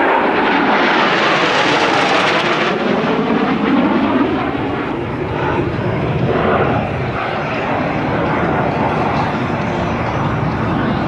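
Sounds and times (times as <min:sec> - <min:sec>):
jets flying past roaring: 0:00.0 - 0:11.0.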